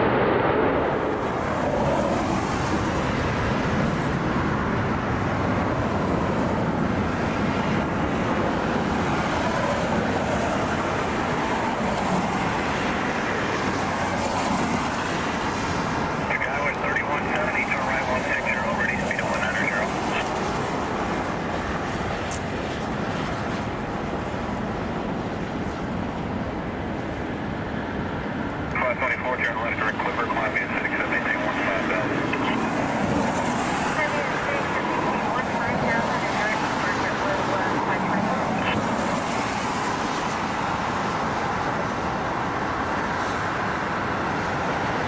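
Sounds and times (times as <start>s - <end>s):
jet engine rushing: 0.0s - 45.0s
traffic noise: 0.0s - 45.0s.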